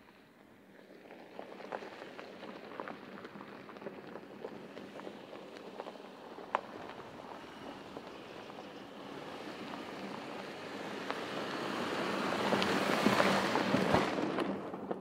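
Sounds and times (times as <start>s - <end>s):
tyres crunching over gravel: 0.9s - 14.1s.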